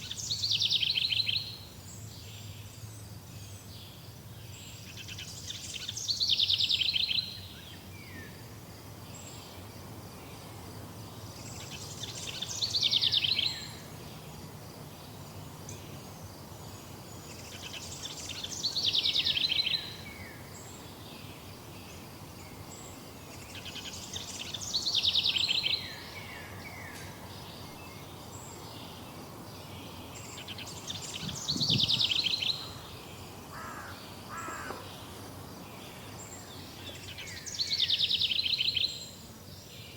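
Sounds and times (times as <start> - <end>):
faint background noise: 0.0 - 39.9
songbird singing: 0.0 - 39.9.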